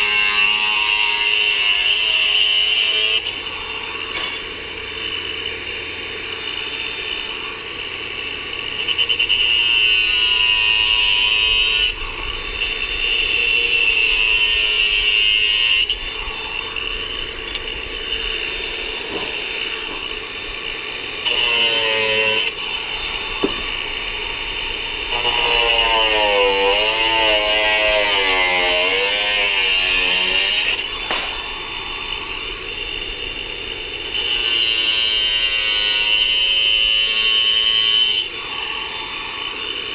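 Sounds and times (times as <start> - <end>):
angle grinder cutting sheet steel: 0.0 - 39.9.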